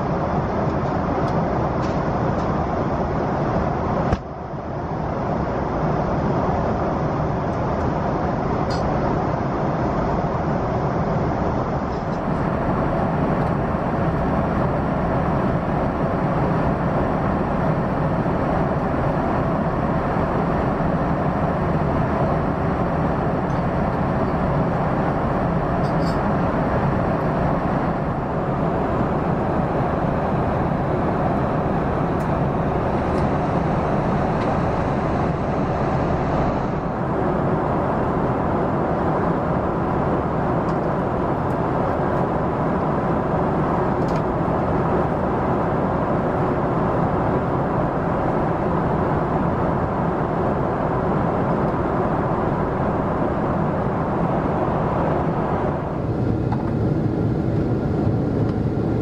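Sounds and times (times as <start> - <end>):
jet cabin engine rush: 0.0 - 59.0.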